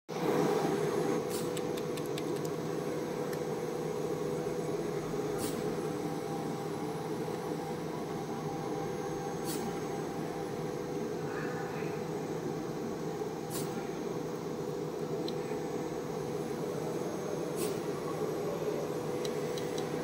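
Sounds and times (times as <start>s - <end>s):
machine hum: 0.1s - 20.0s.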